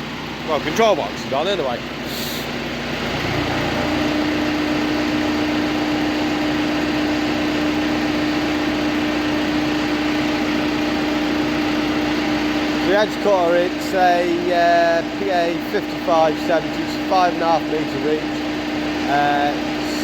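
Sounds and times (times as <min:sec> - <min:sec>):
constant whine: 0:00.0 - 0:20.0
tractor running: 0:00.0 - 0:20.0.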